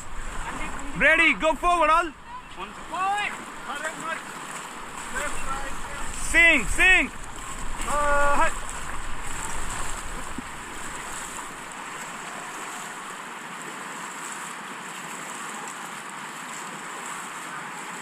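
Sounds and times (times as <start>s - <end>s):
white water rushing: 0.0s - 18.0s.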